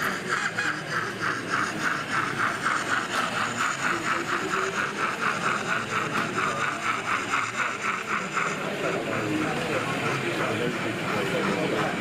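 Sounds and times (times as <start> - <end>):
model steam locomotive chuffing: 0.0 - 12.0.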